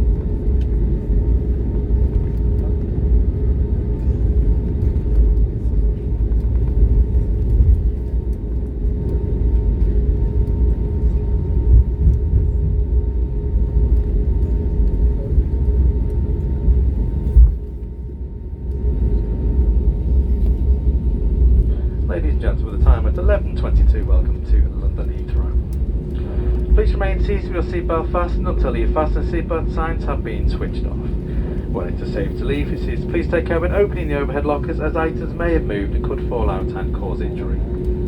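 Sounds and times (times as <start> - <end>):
airplane taxiing rumble: 0.0 - 38.0
jet engines idling hum: 0.0 - 38.0.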